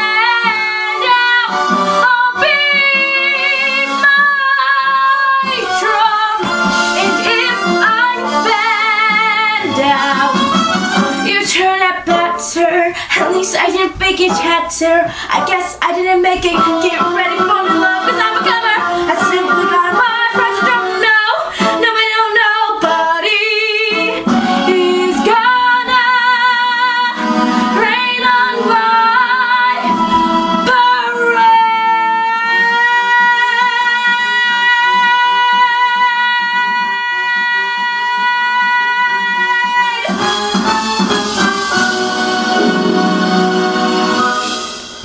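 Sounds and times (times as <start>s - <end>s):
band playing: 0.0s - 13.4s, 14.2s - 23.0s, 23.8s - 45.0s
woman singing: 0.0s - 40.4s.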